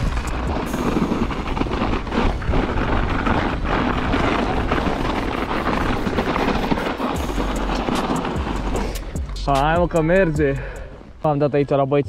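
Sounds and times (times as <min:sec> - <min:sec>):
wind buffeting a camera: 0:00.0 - 0:11.2.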